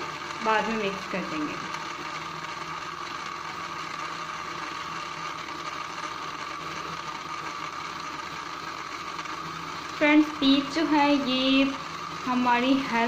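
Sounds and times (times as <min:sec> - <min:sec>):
blender motor running: 0:00.0 - 0:13.0.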